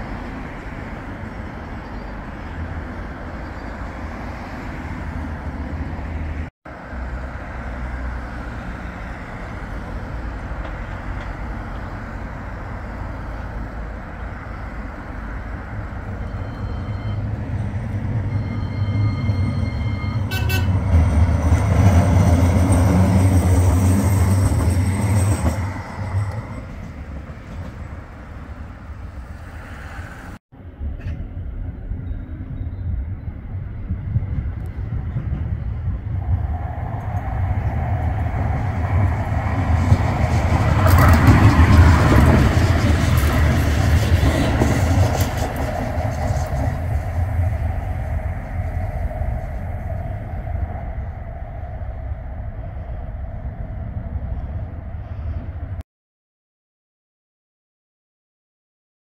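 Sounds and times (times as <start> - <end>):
street noise: 0.0 - 55.8
tram passing with rumble and whine: 0.0 - 55.8.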